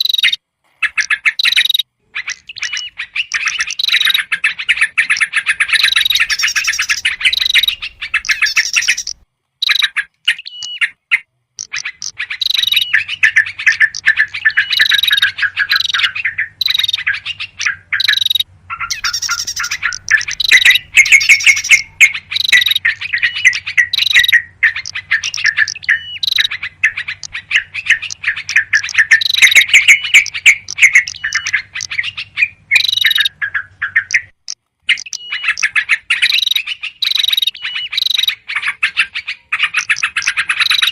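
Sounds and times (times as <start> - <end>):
songbirds chattering and chirping: 0.0 - 40.9.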